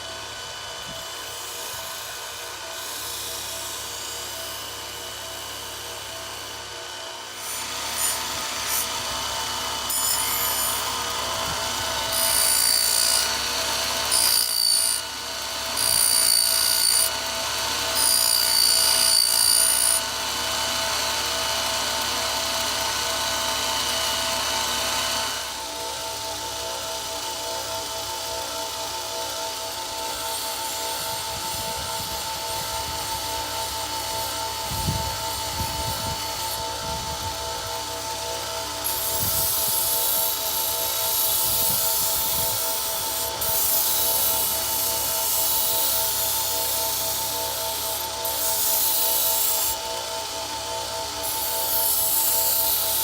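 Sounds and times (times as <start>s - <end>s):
sharpening machine motor hum: 0.0s - 53.0s
blade grinding: 6.6s - 53.0s.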